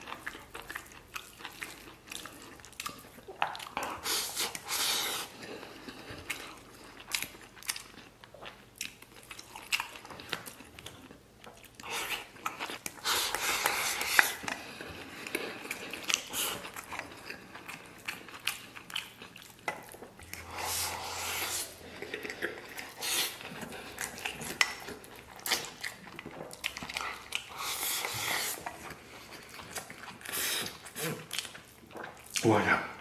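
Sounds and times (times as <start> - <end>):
wet chewing: 0.0 - 33.0.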